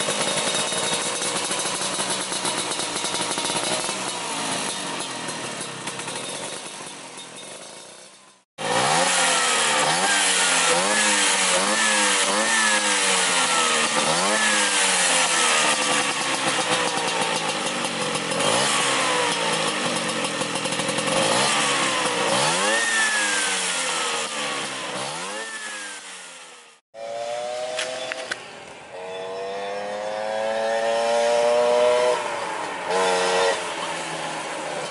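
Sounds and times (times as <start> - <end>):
scooter accelerating: 0.0 - 34.9
scooter engine revving: 0.0 - 34.9.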